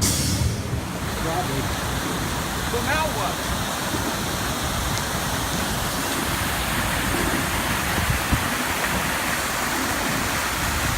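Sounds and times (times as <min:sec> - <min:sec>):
rain on wet street: 0:00.2 - 0:10.9.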